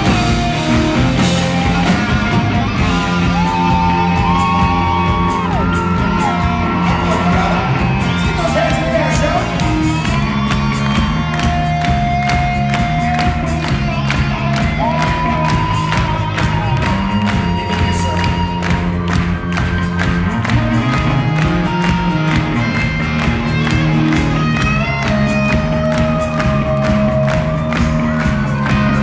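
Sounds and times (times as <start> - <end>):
crowd whooping and cheering: 0.0 - 29.0
live rock band playing: 0.0 - 29.0
steady drum beat: 0.0 - 29.0.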